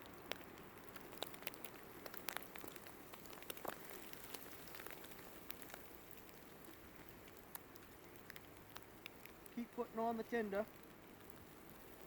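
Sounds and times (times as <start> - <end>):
low steady hiss: 0.0 - 12.0
small fire crackling: 0.0 - 12.0.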